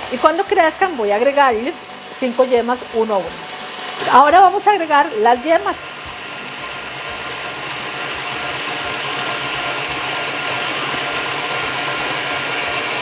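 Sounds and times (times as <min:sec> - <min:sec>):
stand mixer whirring: 0:00.0 - 0:13.0.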